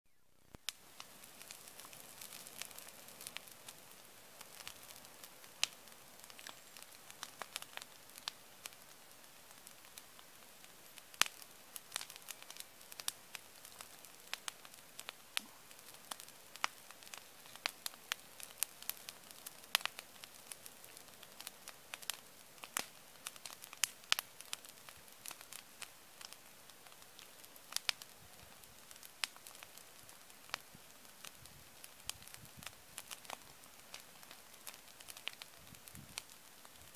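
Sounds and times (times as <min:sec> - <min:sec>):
wood bonfire crackling: 0:00.1 - 0:36.9.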